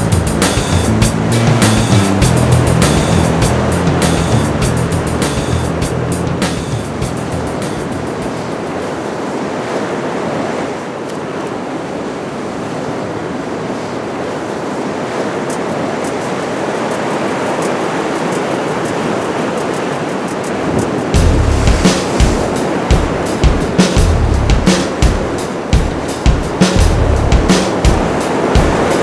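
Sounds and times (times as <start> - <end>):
surf breaking over rocks: 0.4 - 29.0.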